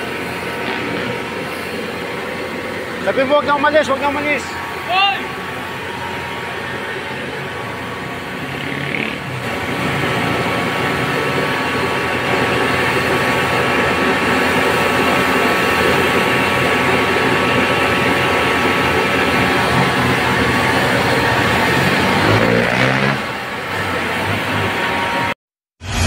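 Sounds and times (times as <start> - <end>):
pressure washer jet hissing: 0.0 - 24.7.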